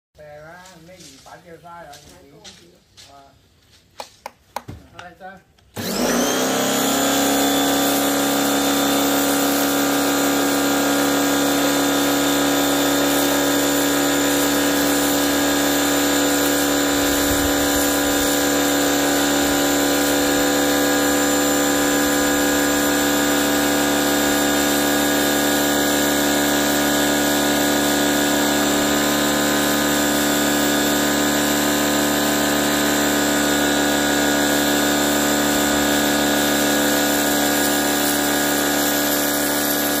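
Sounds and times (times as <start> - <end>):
pressure washer motor whining: 5.7 - 40.0.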